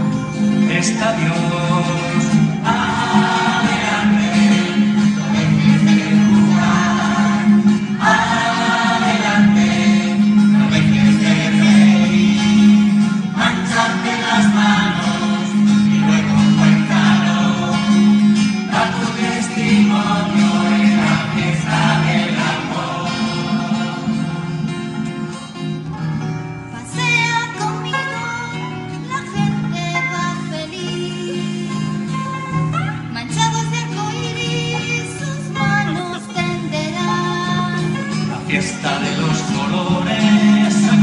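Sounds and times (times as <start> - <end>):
voices singing: 0.0 - 25.2, 26.8 - 41.0
guitars and plucked strings: 0.0 - 41.0.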